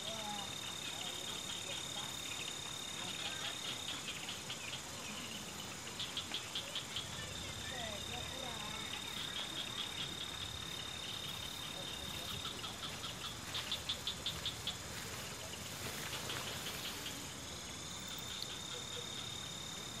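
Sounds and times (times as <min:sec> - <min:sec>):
crickets trilling: 0:00.0 - 0:20.0
loud cricket chirps: 0:00.0 - 0:20.0.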